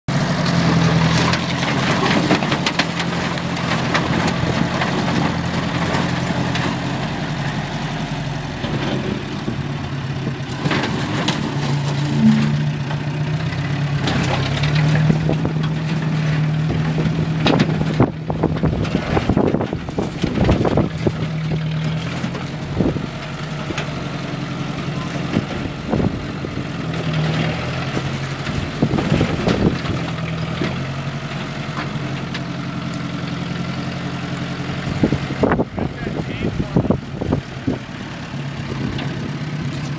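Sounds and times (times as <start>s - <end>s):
tractor engine running: 0.1s - 39.9s.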